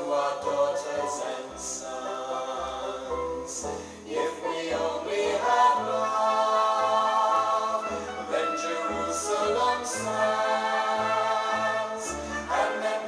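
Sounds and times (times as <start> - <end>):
choir singing: 0.0 - 13.0.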